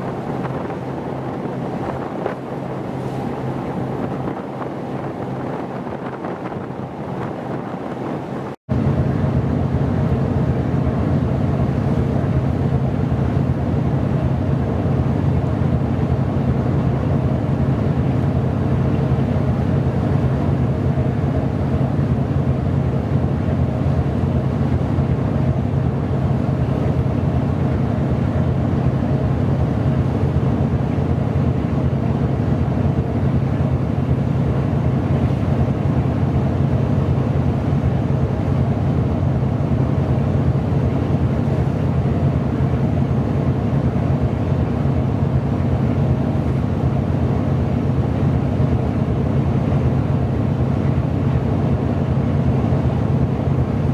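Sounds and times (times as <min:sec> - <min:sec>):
ship diesel engine drone: 0:00.0 - 0:53.9.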